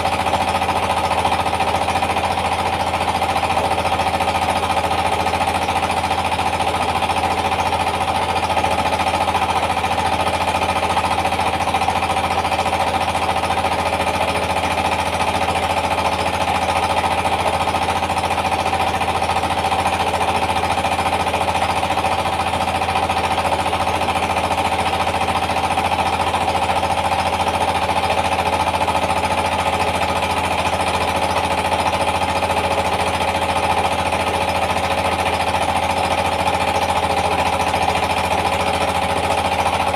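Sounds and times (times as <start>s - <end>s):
diesel engine pounding: 0.0s - 39.9s.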